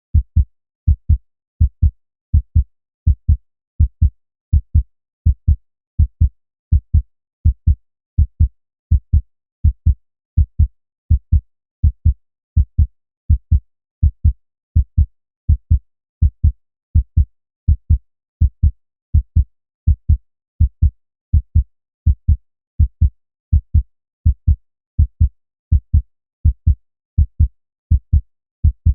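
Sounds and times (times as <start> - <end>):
human heartbeat: 0.1 - 28.9.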